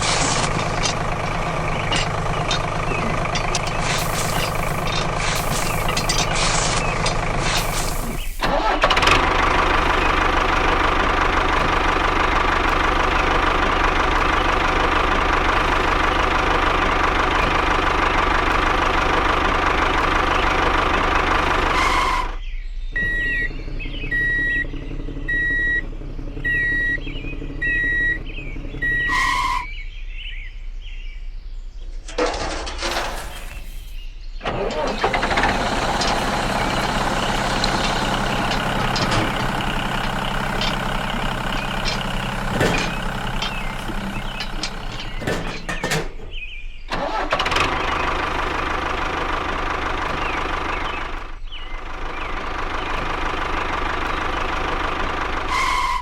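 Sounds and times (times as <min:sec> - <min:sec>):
vehicle engine whining: 0:00.0 - 0:30.2, 0:31.8 - 0:56.0.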